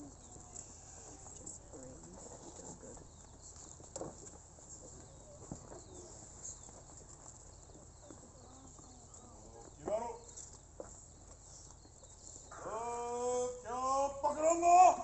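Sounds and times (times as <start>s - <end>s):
crowd murmuring and shuffling: 0.0s - 12.8s.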